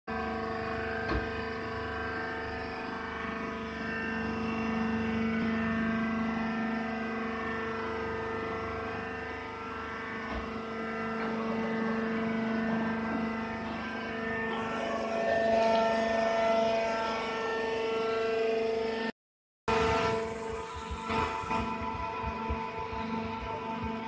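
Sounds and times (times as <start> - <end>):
machine hum: 0.1 - 19.1, 19.7 - 24.0.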